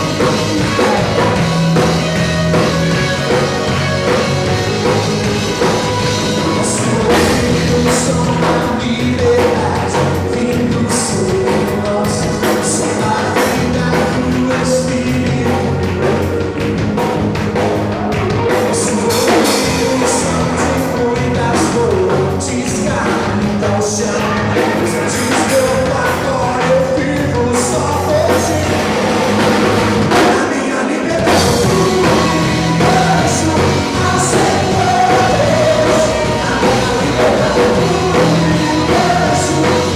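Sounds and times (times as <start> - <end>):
person singing: 0.0 - 17.1, 17.9 - 39.9
bass guitar: 0.0 - 39.9
drum kit: 0.0 - 39.9
guitars: 0.0 - 39.9.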